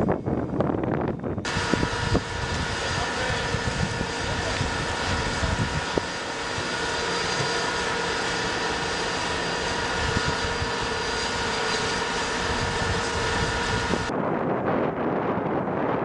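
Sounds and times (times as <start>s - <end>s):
tank turbine engines idling: 0.0s - 14.4s.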